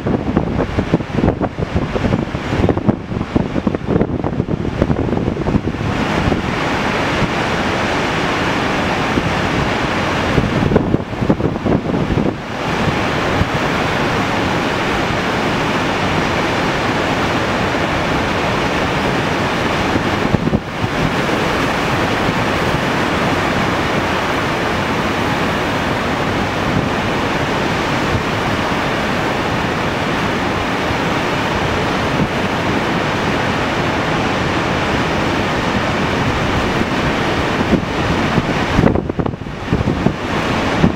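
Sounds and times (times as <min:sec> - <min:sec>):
river pouring over a dam: 0:00.0 - 0:40.9
wind buffeting the microphone: 0:00.0 - 0:40.9.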